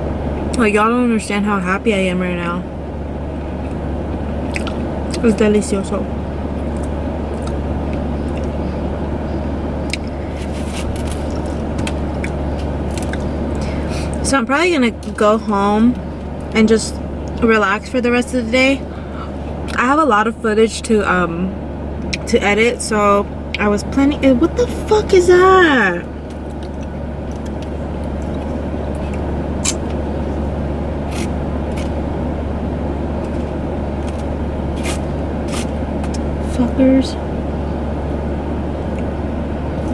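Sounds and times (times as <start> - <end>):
car cabin hum and rumble: 0.0 - 39.9.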